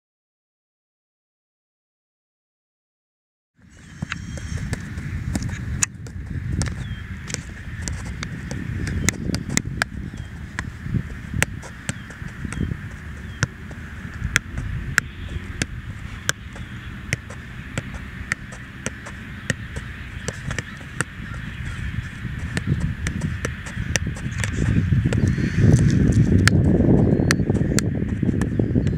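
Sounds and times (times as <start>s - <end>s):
low steady rumble: 3.8s - 28.9s
ball kick taps: 4.0s - 28.9s.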